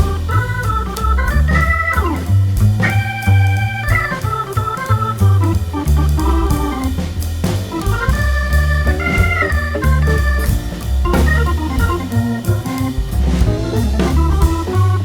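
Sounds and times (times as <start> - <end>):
electronic keyboard music: 0.0 - 15.0.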